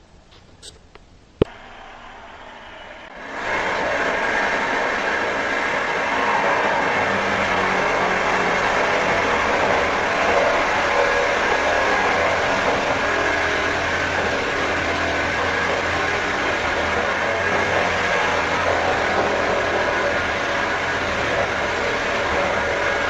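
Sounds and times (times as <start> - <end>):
power drill running: 3.2 - 23.0.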